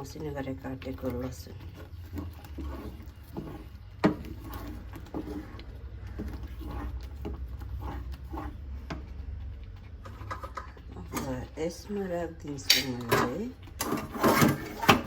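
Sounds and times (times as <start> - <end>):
utensil knocking and scraping a pan: 0.0 - 9.3, 9.9 - 11.6, 12.5 - 15.0.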